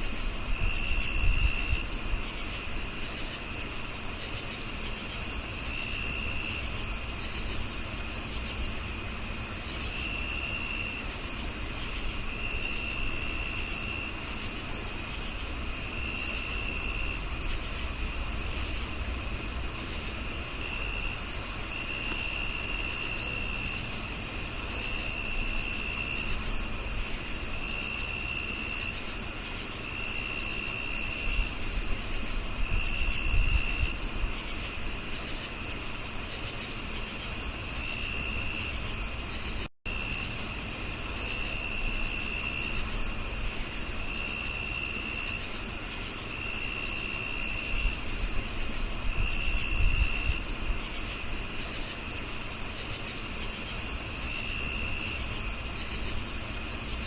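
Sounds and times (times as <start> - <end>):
crickets chirping in pulses: 0.0 - 57.0
insect trills: 0.0 - 57.0.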